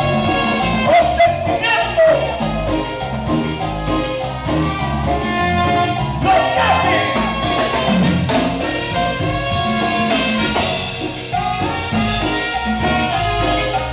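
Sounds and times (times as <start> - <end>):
bass: 0.0 - 13.9
drum kit: 0.0 - 13.9
horns playing melody: 0.0 - 13.9
keyboards: 0.0 - 13.9.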